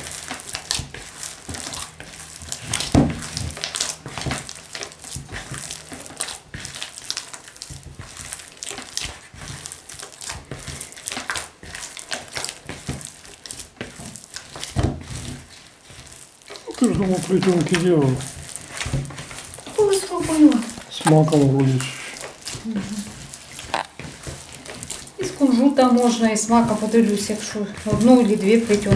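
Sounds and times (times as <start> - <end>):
hands kneading dough: 0.0 - 28.9
dough thump: 2.5 - 6.9, 7.7 - 15.6, 16.7 - 28.9.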